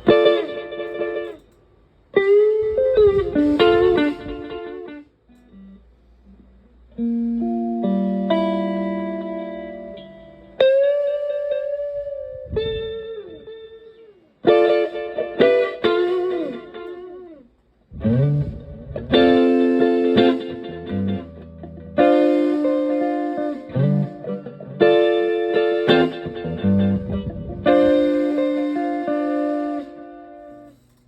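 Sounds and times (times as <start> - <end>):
electric guitar with delay: 0.0 - 1.5, 2.1 - 5.8, 6.9 - 30.8.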